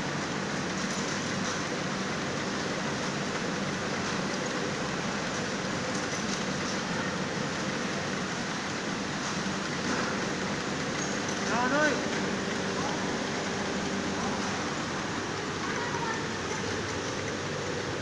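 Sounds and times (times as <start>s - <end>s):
factory machine noise: 0.0s - 18.0s
yarn winding machine running: 0.0s - 18.0s.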